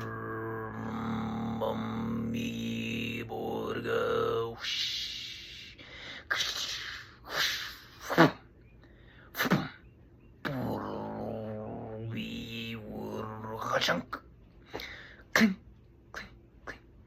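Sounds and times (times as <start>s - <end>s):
man making vocal sound effects: 0.0s - 8.5s, 10.4s - 14.2s, 15.3s - 17.0s.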